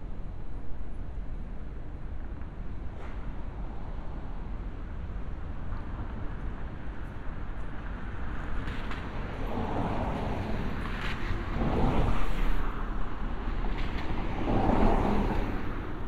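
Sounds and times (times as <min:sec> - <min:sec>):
low rumble of road noise: 0:00.0 - 0:16.0.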